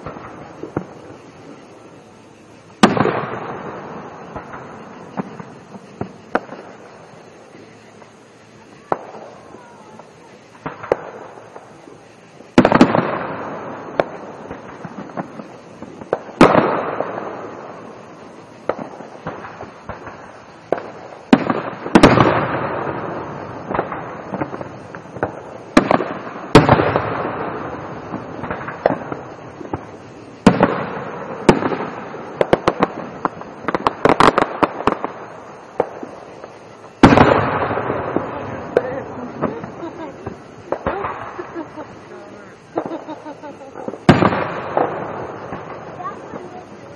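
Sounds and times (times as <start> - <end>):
fireworks booming with echo: 0.0 - 46.9
fireworks crackles: 0.0 - 46.9.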